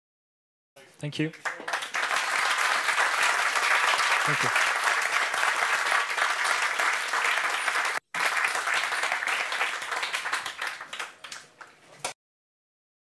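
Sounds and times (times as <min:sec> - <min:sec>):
audience applauding: 0:01.3 - 0:12.2.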